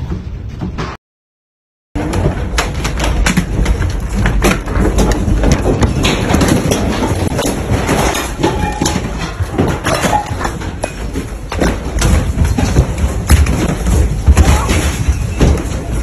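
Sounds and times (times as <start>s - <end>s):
furniture knocking and rattling: 2.0s - 16.0s.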